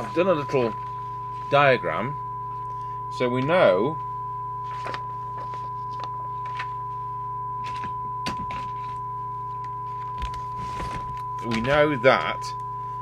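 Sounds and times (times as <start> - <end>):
low steady hum: 0.0 - 13.0
steady test tone from radio: 0.0 - 13.0.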